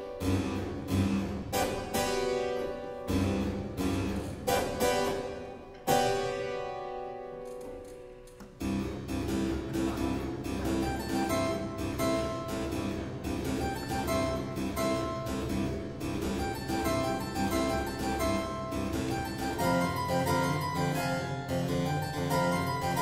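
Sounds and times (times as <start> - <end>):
harpsichord playing boogie-woogie: 0.0 - 23.0.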